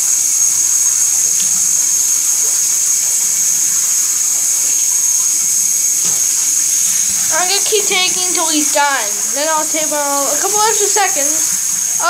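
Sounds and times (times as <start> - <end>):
water spraying from shower head: 0.0 - 12.0.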